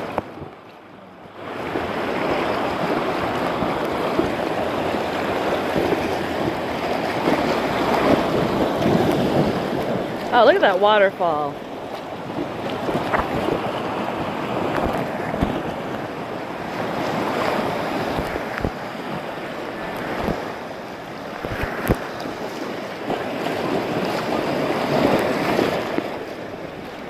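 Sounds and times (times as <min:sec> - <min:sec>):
river rapids rushing and splashing: 0:00.0 - 0:27.0.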